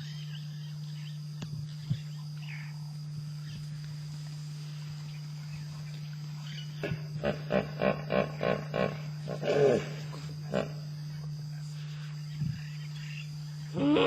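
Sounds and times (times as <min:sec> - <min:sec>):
insect trill: 0:00.0 - 0:14.0
low hum: 0:00.0 - 0:14.0.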